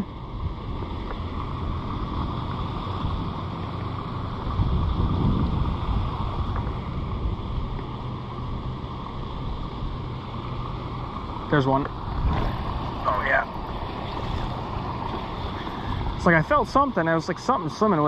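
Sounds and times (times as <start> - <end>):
wind on microphone: 0.0 - 17.8
flowing river water: 0.0 - 18.0.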